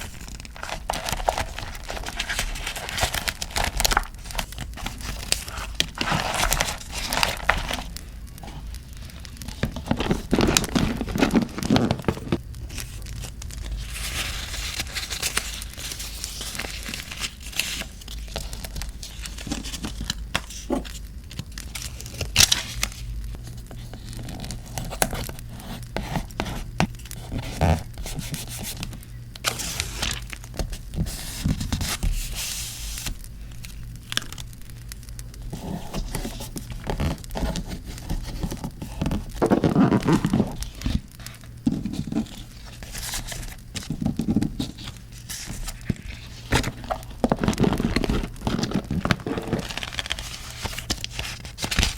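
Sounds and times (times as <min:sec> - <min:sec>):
paper tearing and crinkling: 0:00.0 - 0:28.8, 0:29.4 - 0:30.4, 0:35.5 - 0:51.9.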